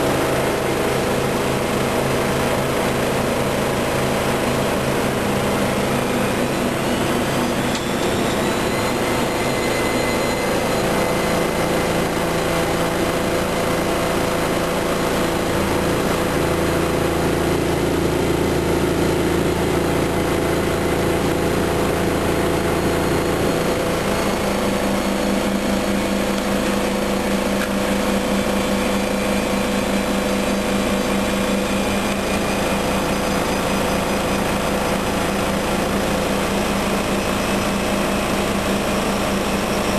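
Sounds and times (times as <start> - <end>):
washing machine humming and whining: 0.0 - 39.9.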